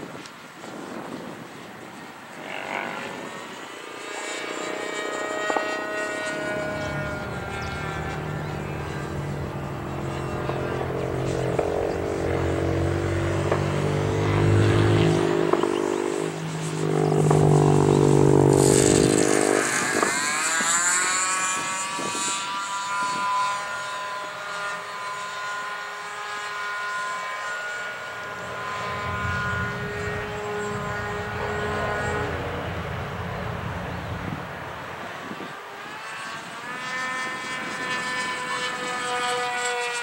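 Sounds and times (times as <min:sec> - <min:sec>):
model airplane engine: 0:00.0 - 0:40.0.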